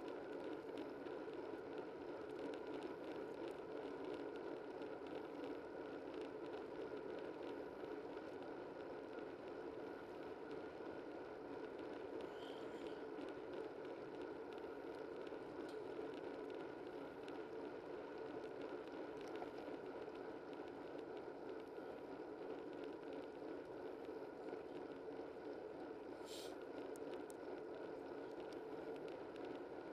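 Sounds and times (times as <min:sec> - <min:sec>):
faint ticks: 0:00.0 - 0:09.6, 0:11.6 - 0:29.9.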